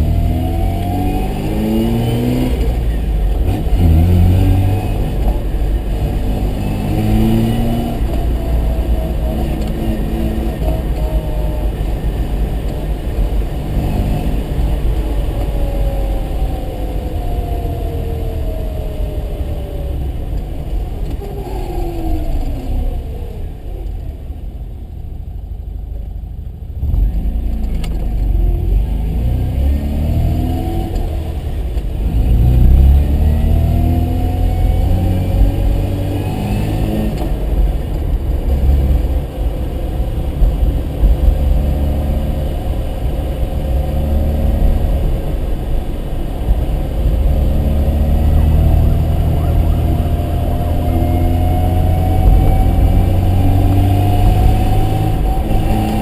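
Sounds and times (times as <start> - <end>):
rotary engine revving: 0.0 - 19.9, 26.8 - 56.0
low road rumble: 0.0 - 56.0.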